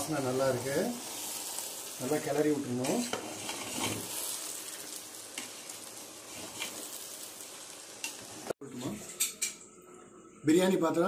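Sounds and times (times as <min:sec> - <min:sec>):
pot sizzling: 0:00.0 - 0:09.6.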